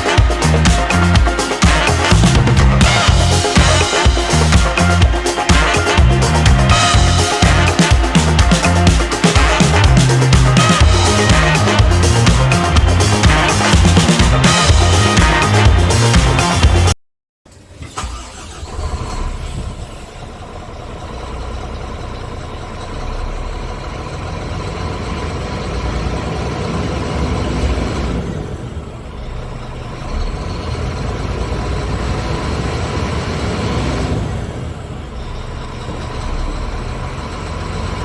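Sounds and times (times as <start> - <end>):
diesel engine starting and running: 0.0 - 38.0.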